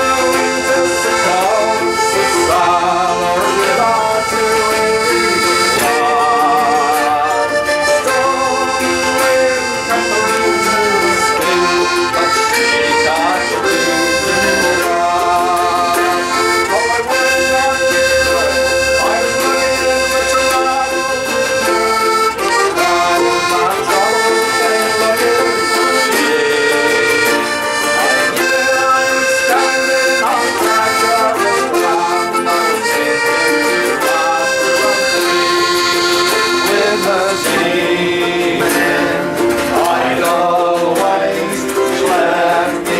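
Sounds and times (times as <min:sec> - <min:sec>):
accordion melody: 0:00.0 - 0:42.9
folk band playing: 0:00.0 - 0:42.9.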